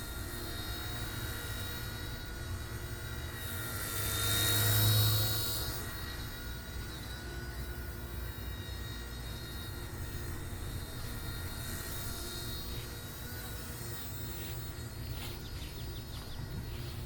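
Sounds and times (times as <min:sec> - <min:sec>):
toy helicopter motor whining: 0:00.0 - 0:17.0.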